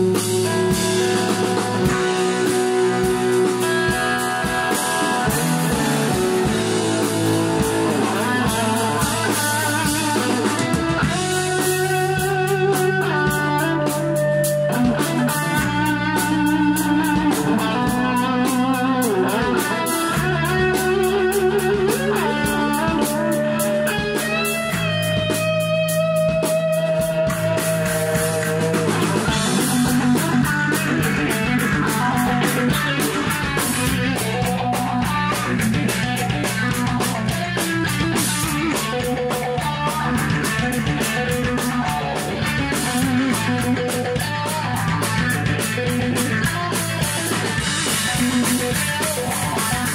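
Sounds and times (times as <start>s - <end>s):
drum kit with cymbals: 0.0s - 49.9s
electric guitars playing melody: 0.0s - 49.9s
held bass notes: 0.0s - 49.9s.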